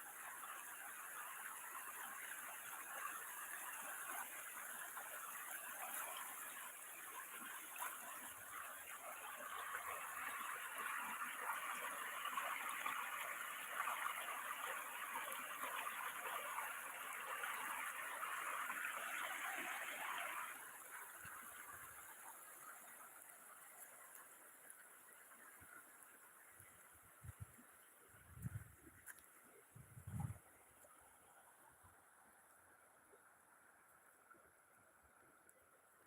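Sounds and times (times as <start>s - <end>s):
water flowing over a weir: 0.0s - 36.0s.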